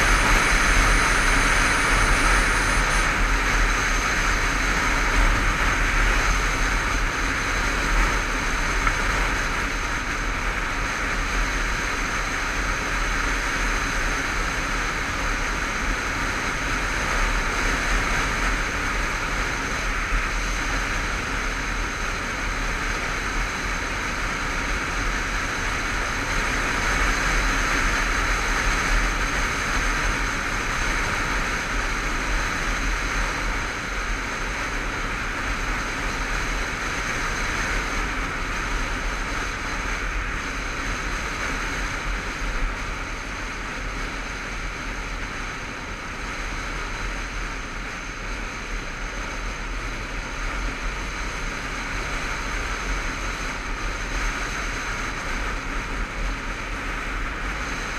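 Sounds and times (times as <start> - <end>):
motorcycle engine: 0.0 - 57.9
road noise: 0.0 - 57.9.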